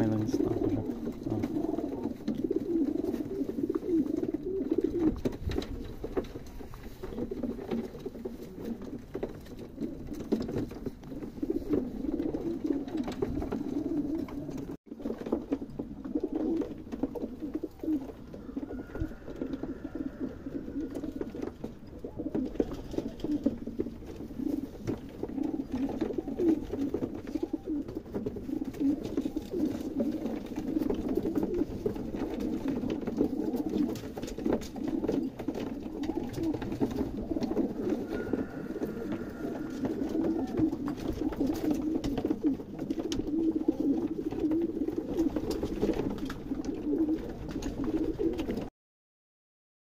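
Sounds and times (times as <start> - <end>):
pigeons cooing: 0.0 - 48.7.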